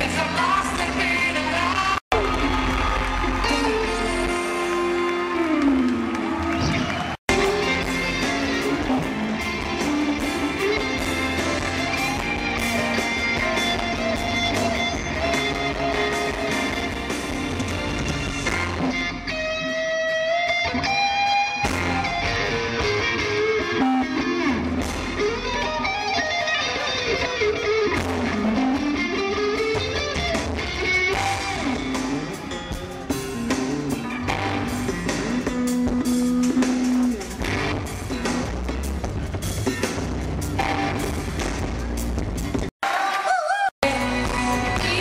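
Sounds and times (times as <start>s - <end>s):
electric guitar: 0.0s - 42.7s, 43.8s - 45.0s
live rock band playing: 0.0s - 42.7s, 43.8s - 45.0s.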